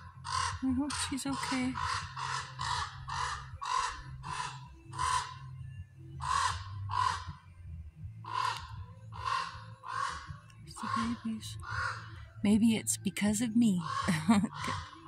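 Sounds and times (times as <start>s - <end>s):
raven cawing: 0.0s - 5.6s, 6.2s - 7.5s, 8.2s - 12.4s, 13.8s - 15.0s.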